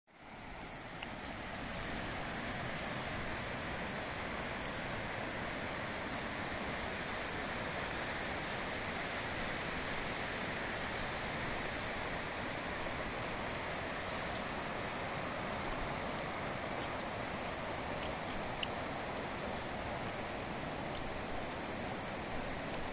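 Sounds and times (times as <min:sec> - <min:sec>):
river rushing over stones: 0:00.2 - 0:22.9.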